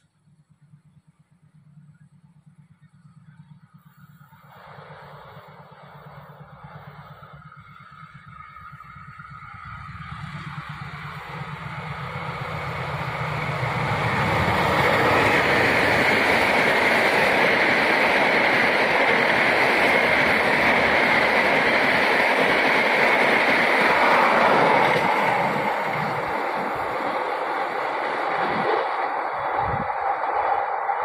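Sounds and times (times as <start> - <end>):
train passing at speed: 0.0 - 31.0.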